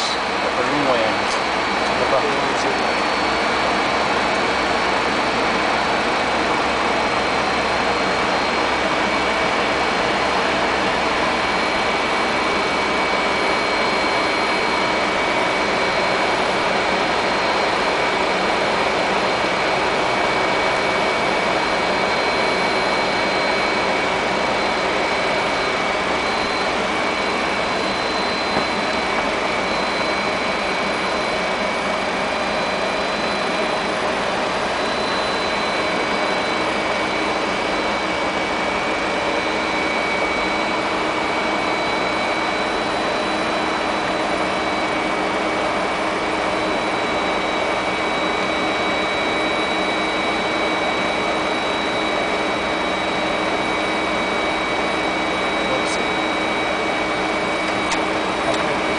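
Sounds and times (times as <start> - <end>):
high-pitched whine: 0.0 - 58.9.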